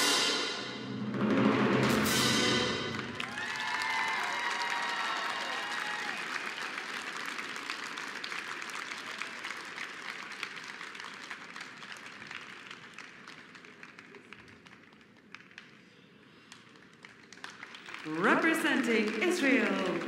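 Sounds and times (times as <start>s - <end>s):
audience applause: 2.8s - 15.8s, 16.6s - 20.0s.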